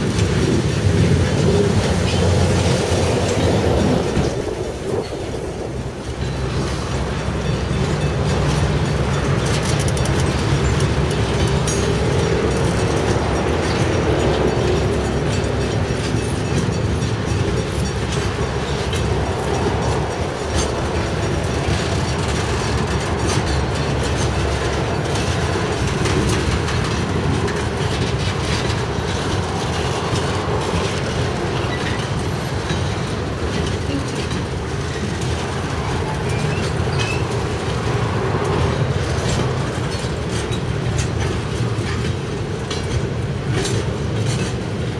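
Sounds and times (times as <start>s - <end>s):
freight wagon wheels clattering: 0.0s - 44.9s.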